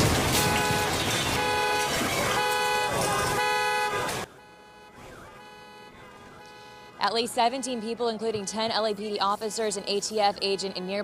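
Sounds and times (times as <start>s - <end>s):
car alarms honking: 0.2s - 11.0s.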